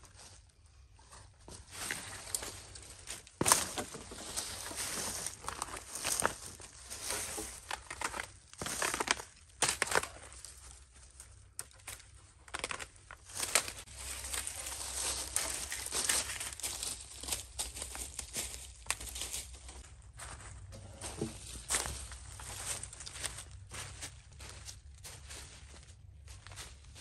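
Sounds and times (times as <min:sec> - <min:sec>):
rustling and crinkling: 0:00.0 - 0:27.0.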